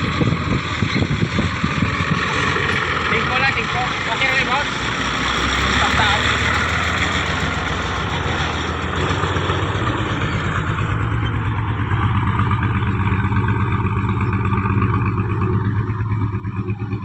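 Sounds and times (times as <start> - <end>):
engine idling rumble: 0.0 - 17.0
road and wind noise: 0.0 - 17.0.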